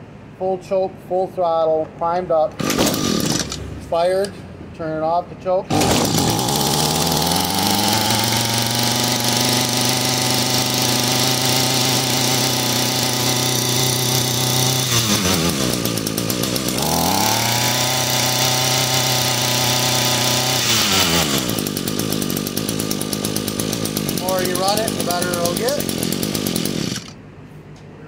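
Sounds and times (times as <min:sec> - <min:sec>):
string trimmer engine running: 0:02.6 - 0:03.7, 0:05.7 - 0:27.2.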